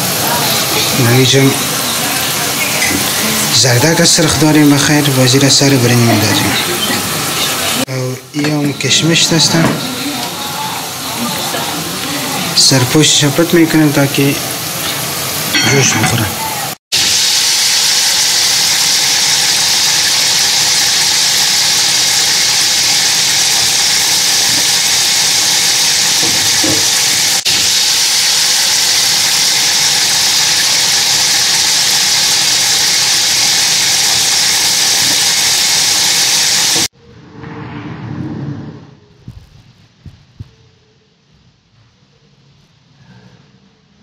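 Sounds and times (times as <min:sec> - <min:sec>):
loud steady hiss: 0:00.0 - 0:36.9.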